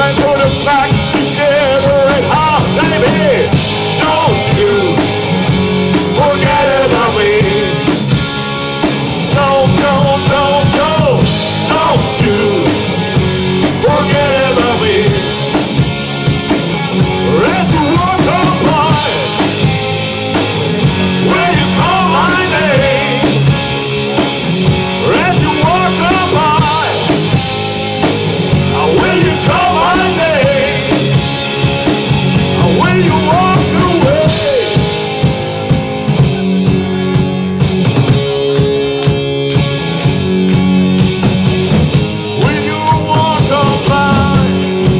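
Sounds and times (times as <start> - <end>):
bending lead guitar line: 0.0 - 44.9
live rock band playing: 0.0 - 44.9.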